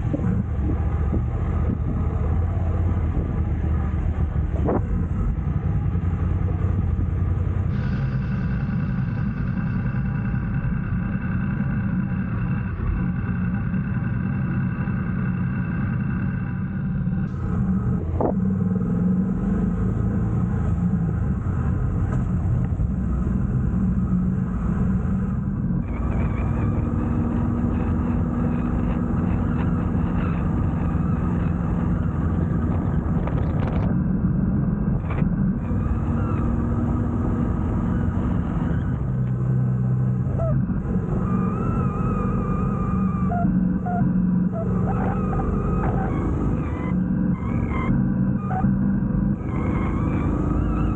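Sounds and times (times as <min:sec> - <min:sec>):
road and wind noise: 0:00.0 - 0:50.9
vehicle engine running: 0:00.0 - 0:50.9.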